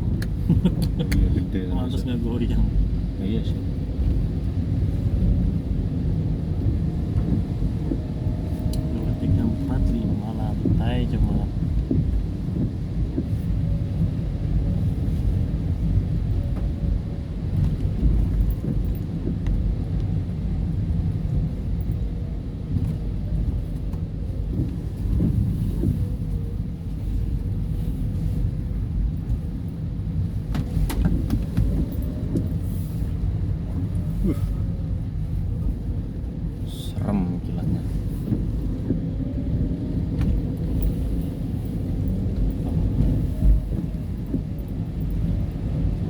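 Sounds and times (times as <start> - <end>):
low engine rumble: 0.0 - 46.0.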